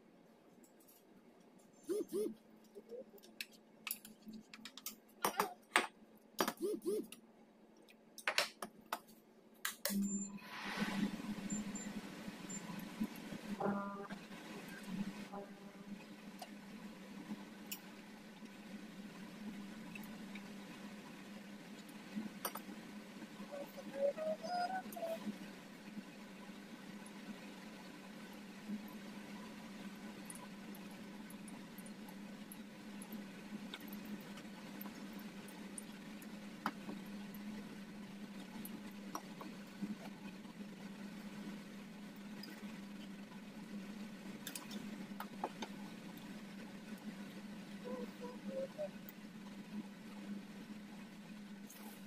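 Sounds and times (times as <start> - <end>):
steady low hum: 9.3 - 52.0.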